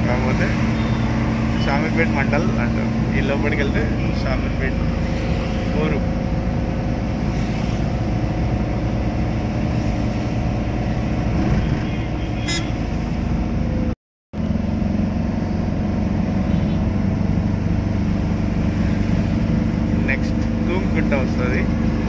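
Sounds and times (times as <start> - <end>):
car engine and tyre drone: 0.0 - 22.0.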